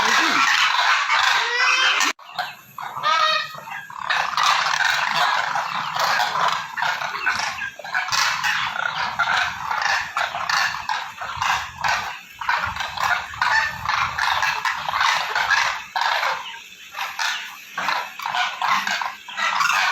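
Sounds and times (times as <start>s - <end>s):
cranes honking and trumpeting: 0.0s - 19.9s.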